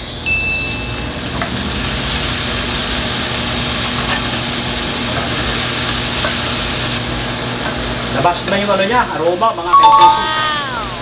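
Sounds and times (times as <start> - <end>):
tomatoes sizzling in oil: 0.7 - 10.2.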